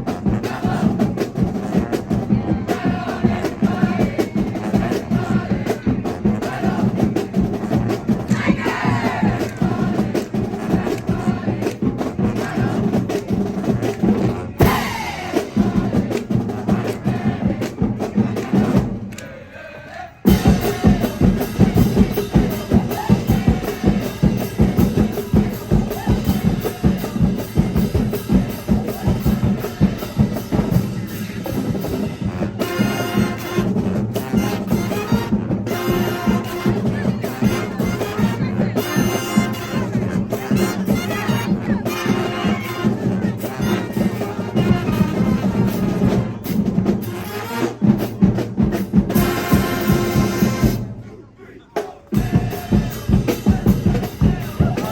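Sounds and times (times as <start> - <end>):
drums beating: 0.0 - 19.4, 20.0 - 54.9
marching band playing: 0.0 - 54.9.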